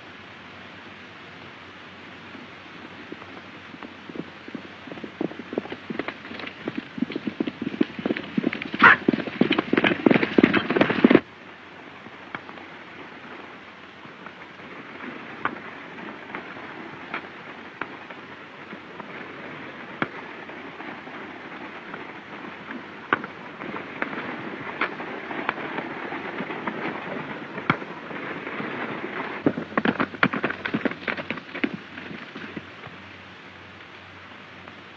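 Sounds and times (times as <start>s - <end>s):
soundtrack hiss: 0.0s - 34.9s
hoofbeats: 2.3s - 33.7s.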